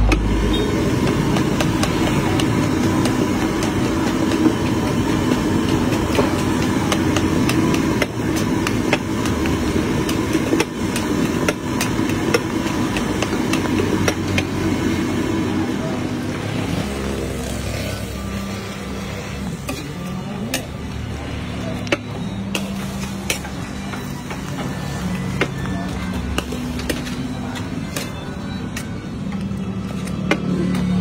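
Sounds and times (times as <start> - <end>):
gas burner noise: 0.0 - 31.0.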